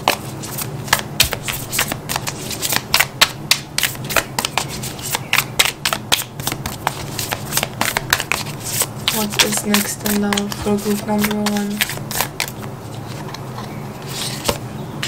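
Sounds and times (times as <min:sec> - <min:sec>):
cards being shuffled: 0:00.0 - 0:14.6.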